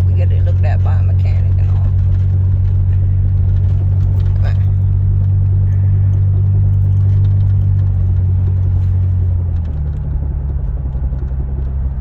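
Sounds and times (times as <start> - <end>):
truck driving drone and rumble: 0.0 - 12.0.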